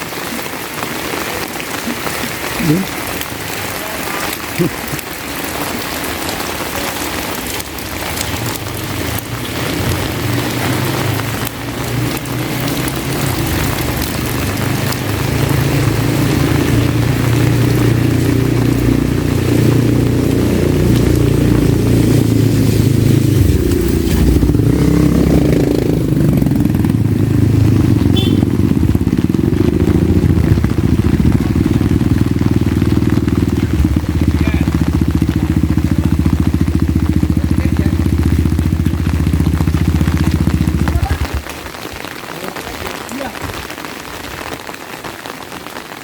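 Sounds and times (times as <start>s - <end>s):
rain hissing: 0.0s - 46.0s
motorcycle engine running: 4.2s - 41.8s.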